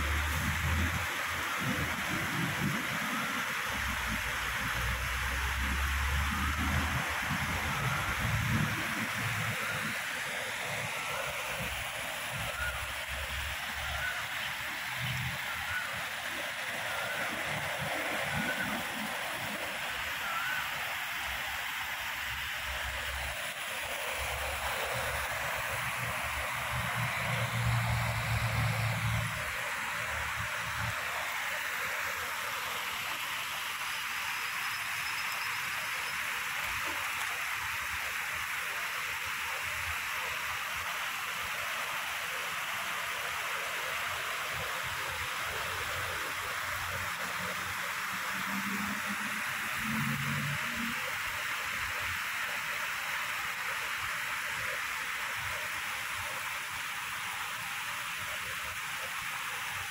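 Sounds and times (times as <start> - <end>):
water rushing over a weir: 0.0 - 59.9.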